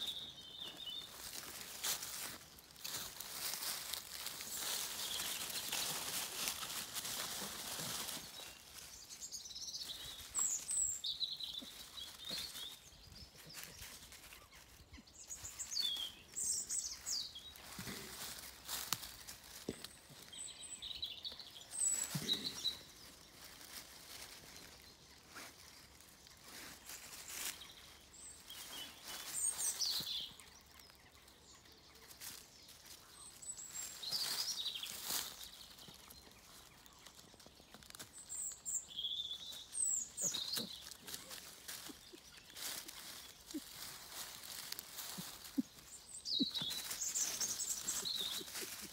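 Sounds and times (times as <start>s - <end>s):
rustling of dry leaf litter: 0.0s - 48.9s
songbirds singing: 0.0s - 48.9s.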